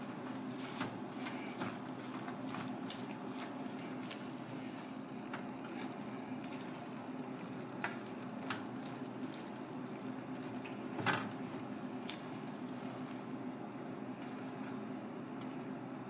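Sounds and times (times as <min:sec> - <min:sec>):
steady background hum: 0:00.0 - 0:16.0
sauce bubbling: 0:00.2 - 0:16.0.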